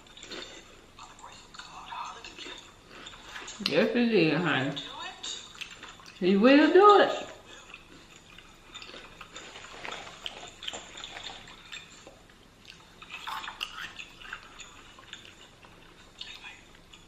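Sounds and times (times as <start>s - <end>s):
chewing and crunching food: 0.0s - 6.2s, 7.1s - 17.0s.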